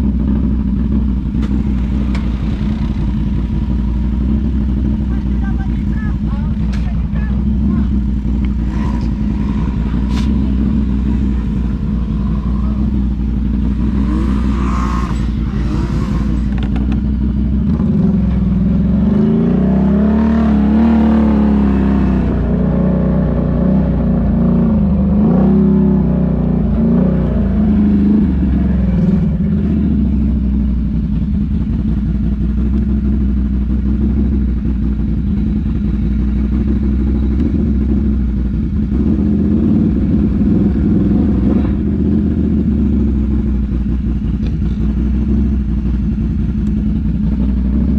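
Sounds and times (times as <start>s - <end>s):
atv engine revving: 0.0s - 47.9s.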